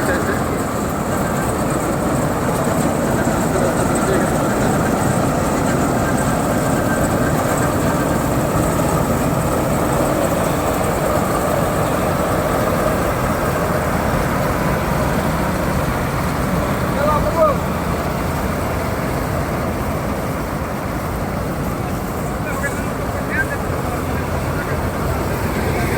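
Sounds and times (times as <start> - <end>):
combine harvester engine running: 0.0 - 25.9.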